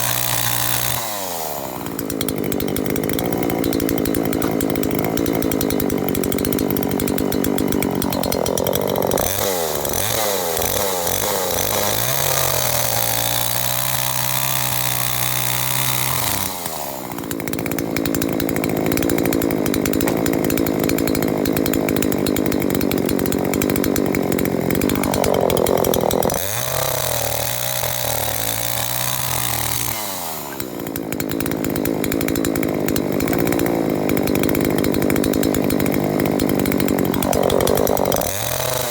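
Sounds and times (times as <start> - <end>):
chainsaw engine revving and idling: 0.0 - 38.9.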